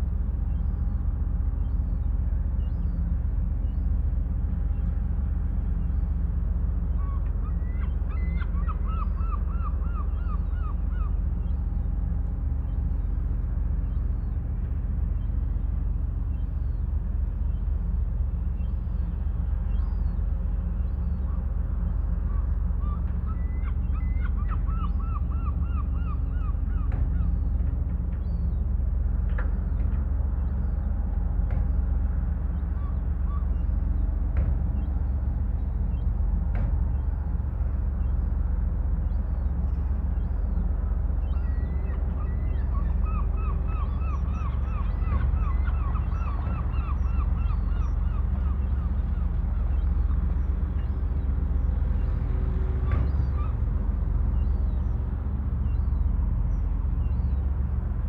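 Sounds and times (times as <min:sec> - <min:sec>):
steady low rumble: 0:00.0 - 0:58.0
birds calling: 0:04.5 - 0:28.7, 0:31.6 - 0:58.0.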